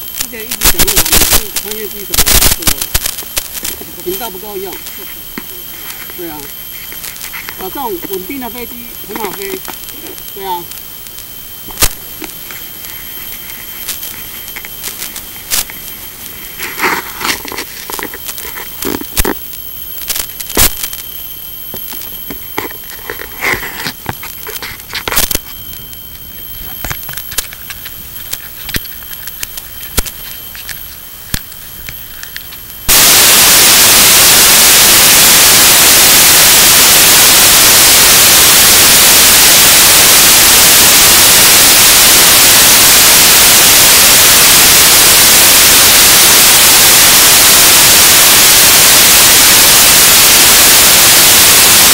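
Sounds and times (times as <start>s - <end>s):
faint high whine: 0.0s - 51.9s
white-noise static: 0.0s - 51.9s.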